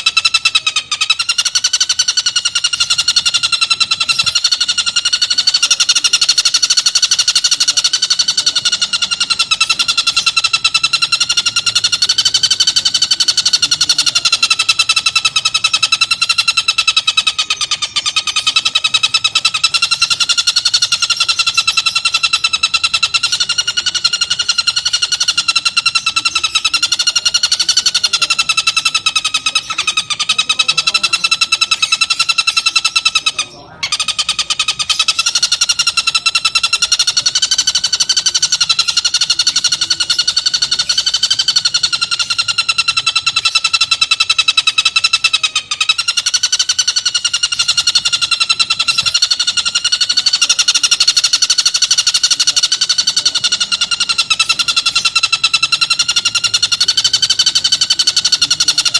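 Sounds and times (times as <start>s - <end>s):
kingfisher rattling call: 0.0s - 58.9s.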